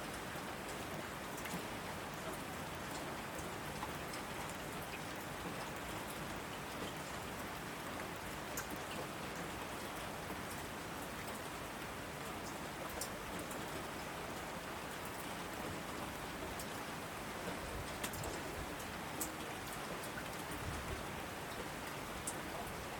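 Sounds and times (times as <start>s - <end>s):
heavy rain on asphalt: 0.0s - 22.9s.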